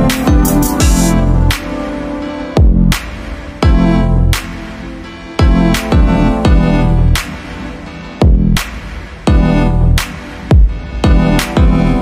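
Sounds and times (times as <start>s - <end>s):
electronic beat with sliding bass: 0.0s - 12.0s.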